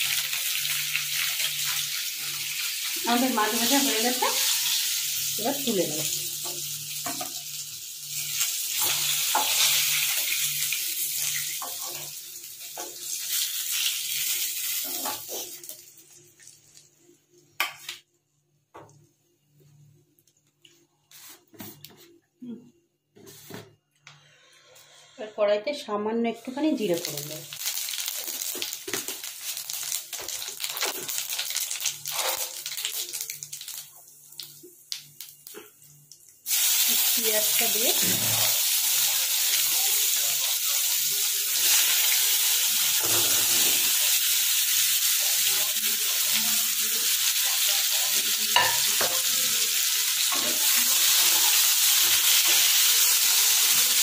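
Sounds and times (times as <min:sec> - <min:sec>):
hot oil sizzling: 0:00.0 - 0:18.0, 0:26.5 - 0:54.0.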